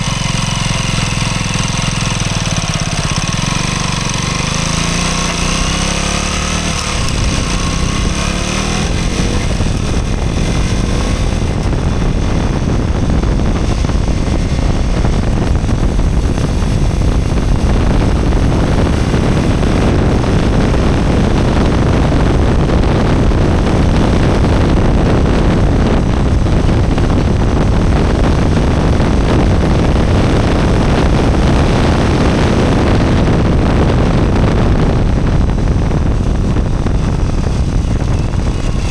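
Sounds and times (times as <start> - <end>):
motorcycle engine accelerating: 0.0 - 38.9
wind on microphone: 0.0 - 38.9.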